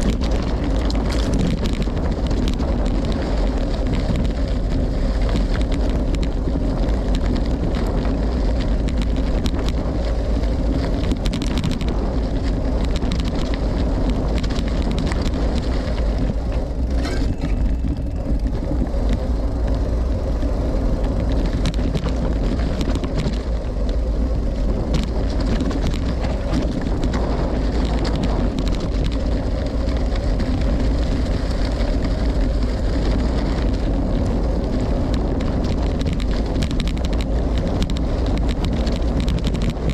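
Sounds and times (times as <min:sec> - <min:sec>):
bike tyres rolling on gravel: 0:00.0 - 0:39.9
small clicks and rattles: 0:00.0 - 0:39.9
wind on microphone: 0:00.0 - 0:39.9.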